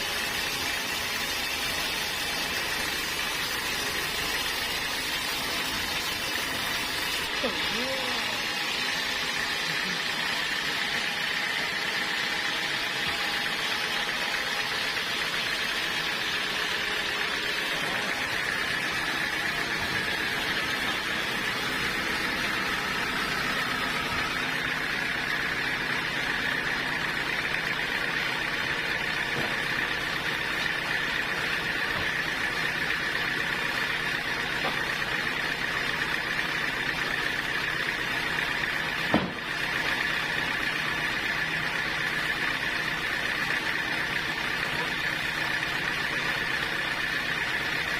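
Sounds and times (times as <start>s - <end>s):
engine drone: 0.0s - 47.9s
saw high whine: 0.0s - 47.9s.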